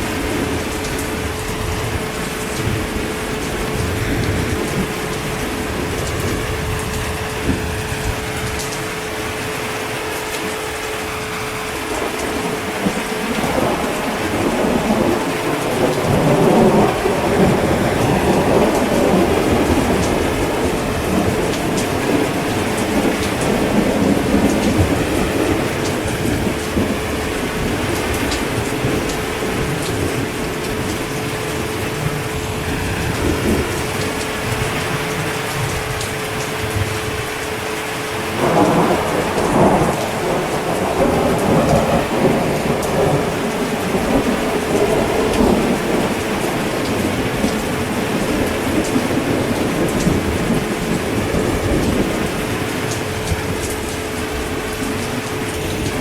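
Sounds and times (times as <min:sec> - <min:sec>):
heavy rain: 0:00.0 - 0:56.0
thunder rolling: 0:00.0 - 0:56.0.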